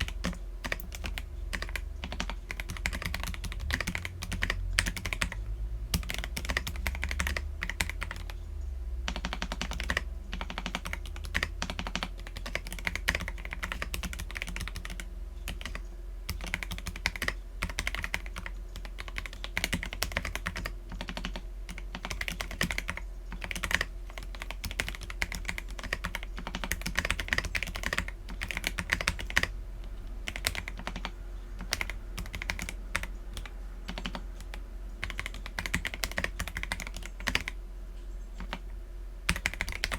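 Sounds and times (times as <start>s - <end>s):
mechanical keyboard typing: 0.0s - 8.4s, 9.1s - 29.5s, 30.2s - 37.6s, 38.4s - 38.7s, 39.3s - 39.9s
faint low hum: 0.0s - 39.9s.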